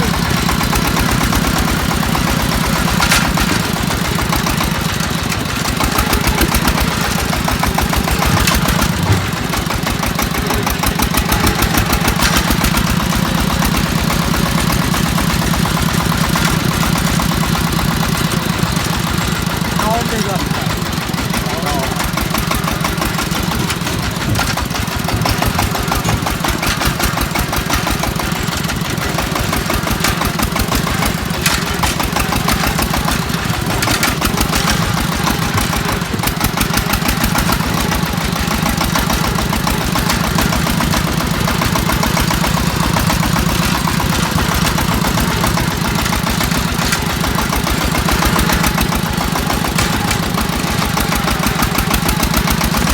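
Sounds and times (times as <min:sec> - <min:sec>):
diesel engine chugging: 0:00.0 - 0:52.9.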